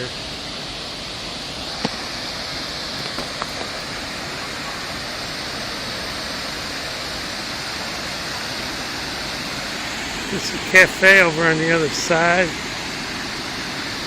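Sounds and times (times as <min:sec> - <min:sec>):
river water rushing over dam: 0:00.0 - 0:14.0.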